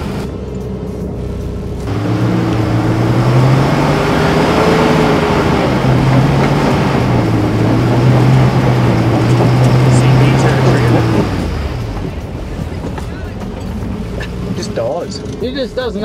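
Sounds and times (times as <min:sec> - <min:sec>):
car engine straining under load: 0:00.0 - 0:16.0.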